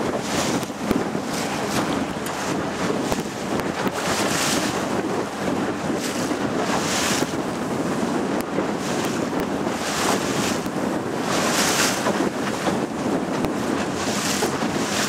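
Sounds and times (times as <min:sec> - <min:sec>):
boat motor running: 0:00.0 - 0:15.0
water rushing along hull: 0:00.0 - 0:15.0
wind buffeting microphone: 0:00.0 - 0:15.0.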